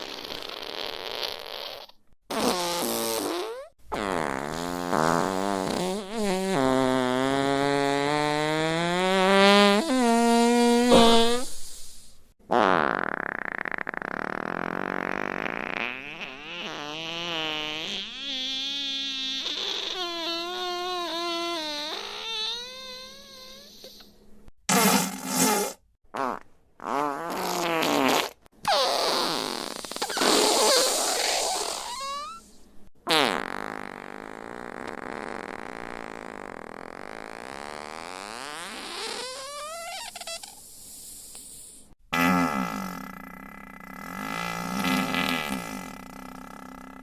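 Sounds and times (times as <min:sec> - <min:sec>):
fart sound effects: 0:00.0 - 0:24.1, 0:24.7 - 0:32.4, 0:33.1 - 0:40.6, 0:42.1 - 0:47.0.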